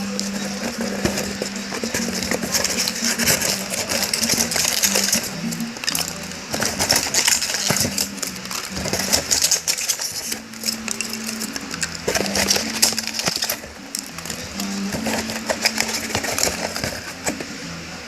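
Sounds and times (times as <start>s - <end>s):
packaging rustling and clicking: 0.0s - 17.6s
quiet background music: 0.0s - 18.0s.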